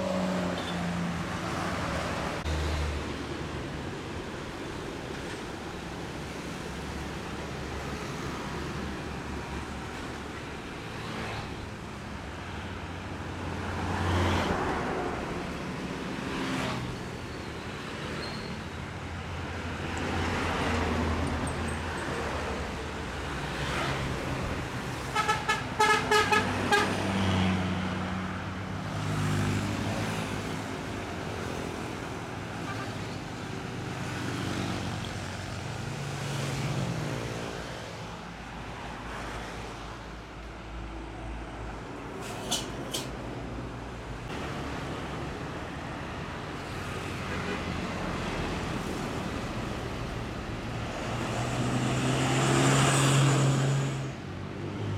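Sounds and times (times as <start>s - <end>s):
passing vehicle engines: 0.0s - 4.2s, 4.8s - 54.9s.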